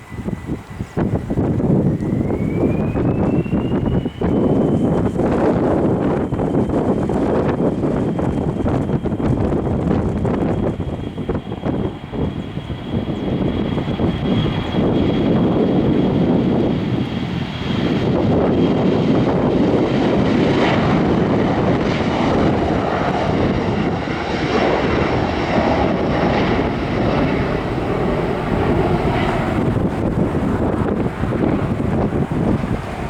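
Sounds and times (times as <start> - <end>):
airliner engines running: 0.0 - 33.0.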